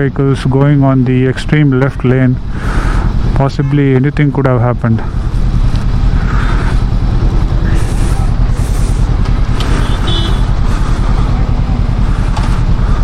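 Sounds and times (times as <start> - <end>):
motorcycle engine rumble: 0.0 - 13.0
road traffic: 0.0 - 13.0.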